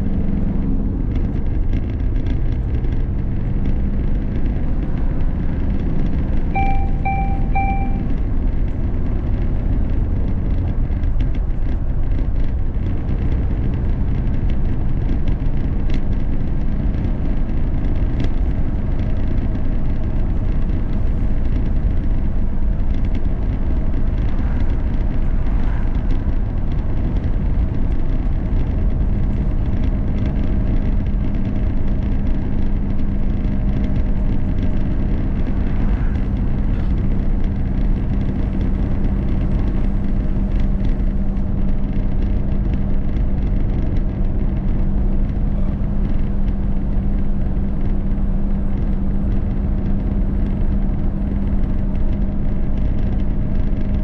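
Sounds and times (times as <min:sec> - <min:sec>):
steady low hum: 0:00.0 - 0:54.0
vehicle engine and road noise: 0:00.0 - 0:54.0.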